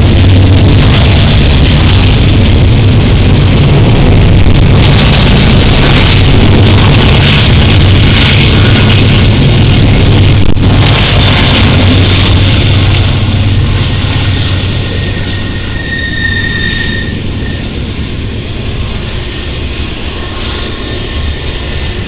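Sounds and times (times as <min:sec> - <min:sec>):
freight locomotives passing: 0:00.0 - 0:22.0.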